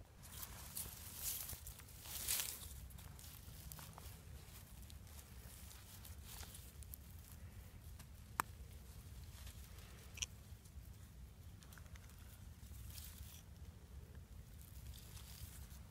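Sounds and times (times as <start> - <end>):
low steady rumble: 0.0 - 15.9
rustling of pine needles: 0.1 - 15.9.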